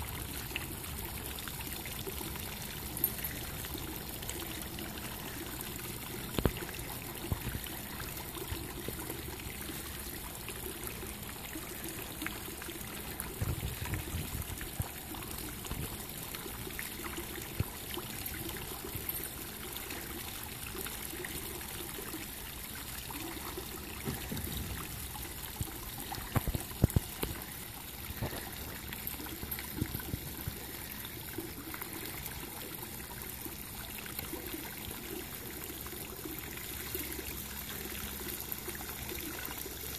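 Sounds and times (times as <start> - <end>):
fountain water spraying into pool: 0.0 - 39.9.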